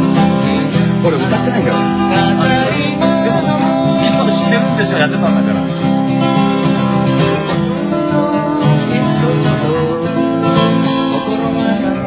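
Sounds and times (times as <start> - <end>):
acoustic guitars playing folk music: 0.0 - 12.0.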